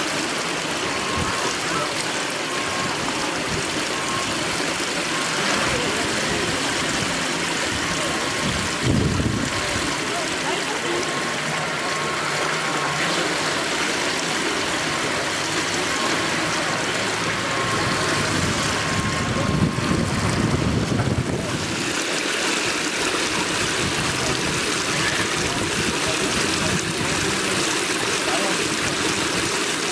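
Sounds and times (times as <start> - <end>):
water rushing and splashing: 0.0 - 29.9.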